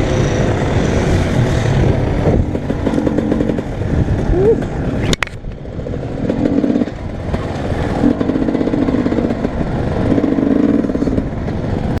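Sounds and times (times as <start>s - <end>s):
motocross bike engines: 0.0s - 12.0s.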